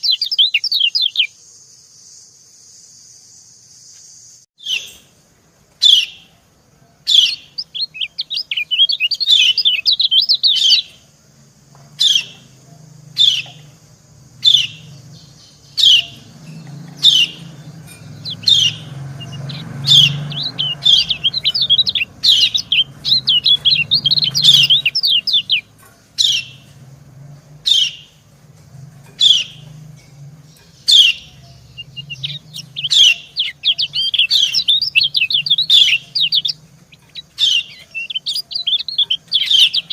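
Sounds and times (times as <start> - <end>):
bird high twittering song: 0.0 - 5.2, 5.8 - 39.9.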